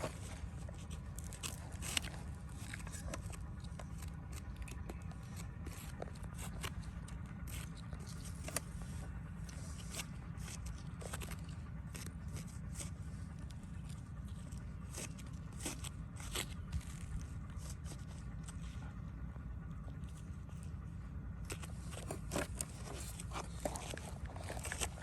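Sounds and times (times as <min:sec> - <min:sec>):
irregular scraping: 0:00.0 - 0:25.0.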